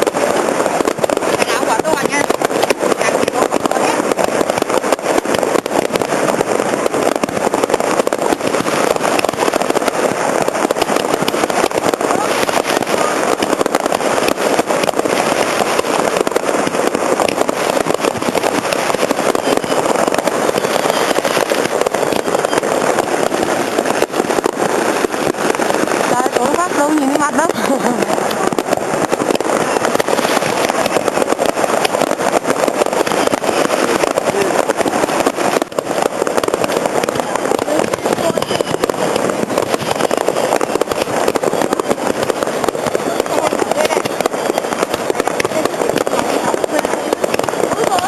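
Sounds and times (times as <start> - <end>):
fireworks crackling and popping: 0.0 - 48.0.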